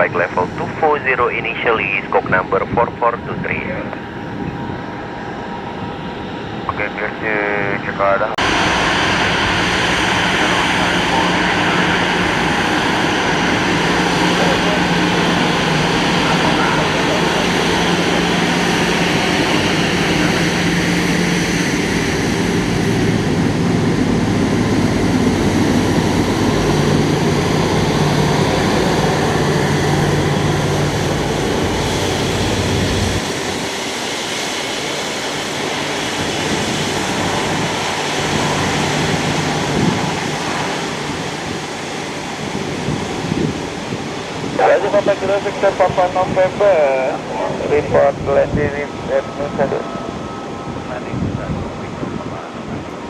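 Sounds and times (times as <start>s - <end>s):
jet engine roar: 0.0s - 53.0s.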